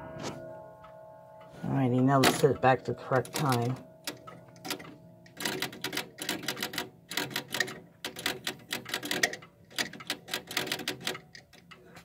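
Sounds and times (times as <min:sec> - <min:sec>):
clock mechanism clicking: 0:02.1 - 0:11.9.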